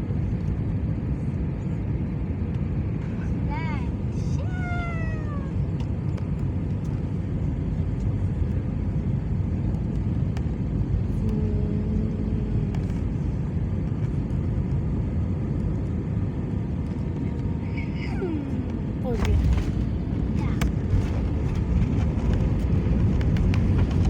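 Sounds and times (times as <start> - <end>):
aircraft engine rumble: 0.0 - 24.0.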